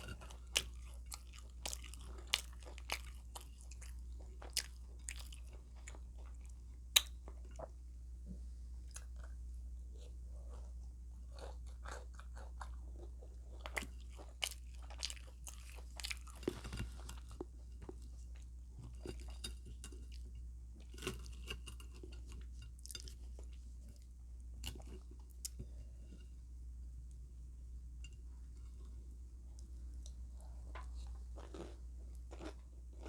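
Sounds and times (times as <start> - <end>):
chewing and crunching food: 0.0 - 7.8, 8.4 - 26.2, 28.5 - 33.0
steady low hum: 0.0 - 33.0.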